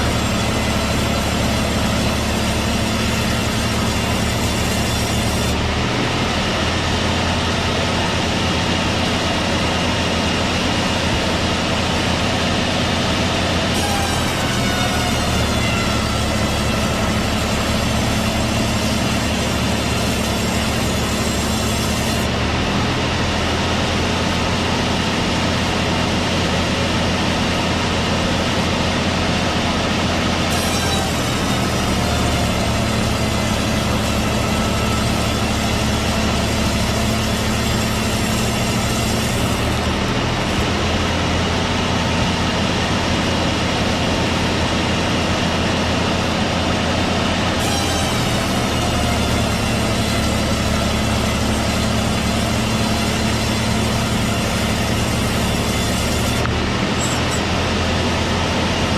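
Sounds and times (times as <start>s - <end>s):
sawmill saw cutting log: 0.0s - 58.9s.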